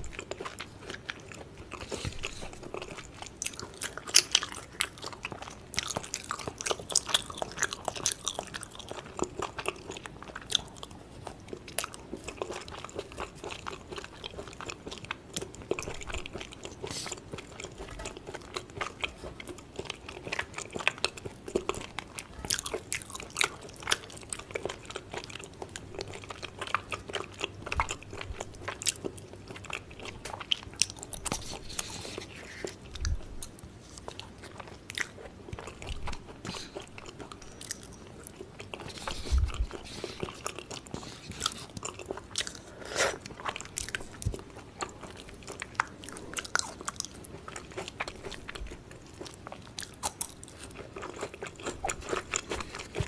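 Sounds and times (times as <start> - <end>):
chewing and biting: 0.0 - 53.0.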